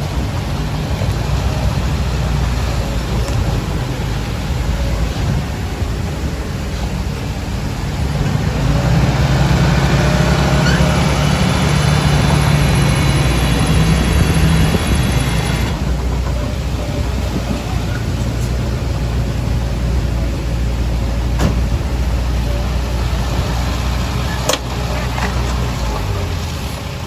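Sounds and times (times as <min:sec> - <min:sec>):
heavy diesel machine engine: 0:00.0 - 0:27.0
high steady whine: 0:00.0 - 0:27.0.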